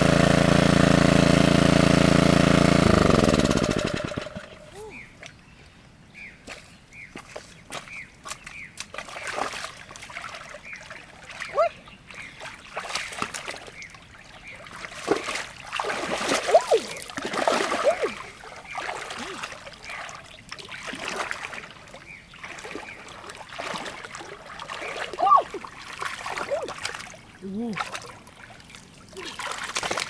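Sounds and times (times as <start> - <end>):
water splashing and trickling: 0.0 - 5.5, 6.4 - 30.0.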